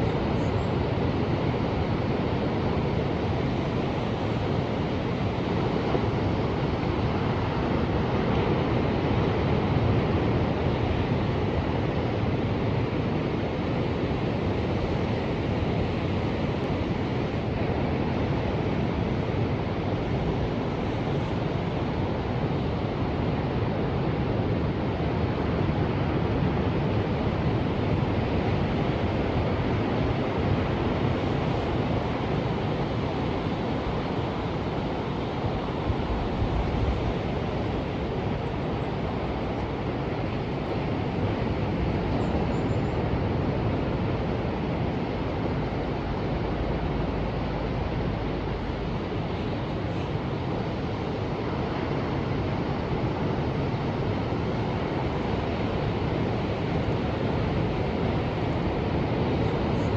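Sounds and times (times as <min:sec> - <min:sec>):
ocean waves washing: 0:00.0 - 0:59.9.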